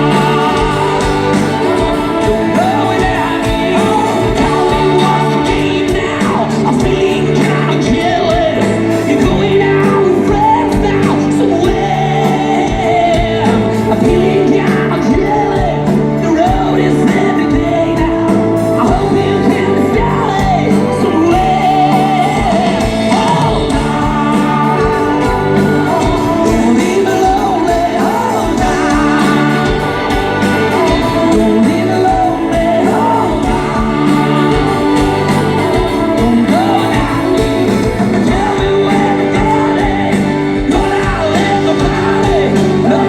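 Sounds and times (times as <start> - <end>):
lead singer singing: 0.0 - 43.0
live band music: 0.0 - 43.0
steady drum beat: 0.0 - 43.0
sustained bass notes: 0.0 - 43.0.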